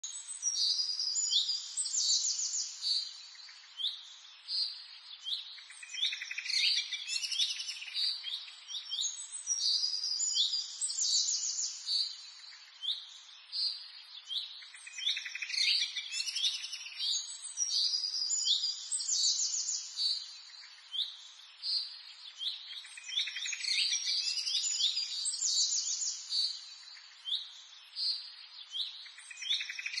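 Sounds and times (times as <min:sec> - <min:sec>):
songbird chirping and trilling: 0:00.0 - 0:30.0.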